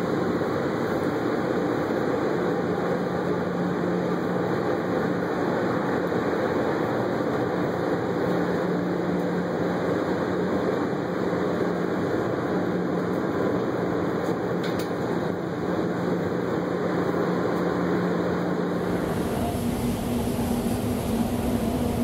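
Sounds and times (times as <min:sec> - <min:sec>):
shuttle train rumbling in tunnel: 0:00.0 - 0:22.0.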